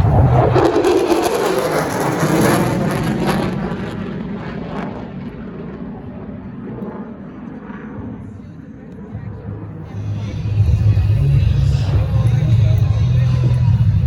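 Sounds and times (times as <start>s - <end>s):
fighter jet passing overhead: 0.0s - 13.0s.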